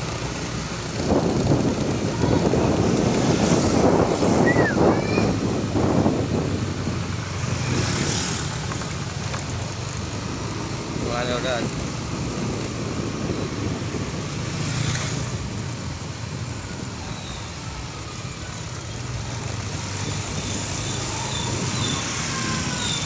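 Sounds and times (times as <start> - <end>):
traffic passing by: 0.0 - 23.0.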